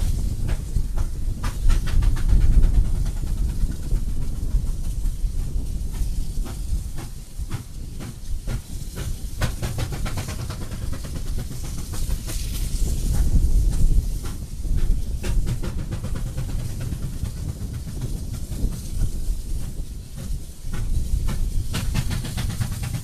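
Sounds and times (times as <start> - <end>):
locomotive exhaust beats: 0.0 - 23.0
steam locomotive rumble: 0.0 - 23.0.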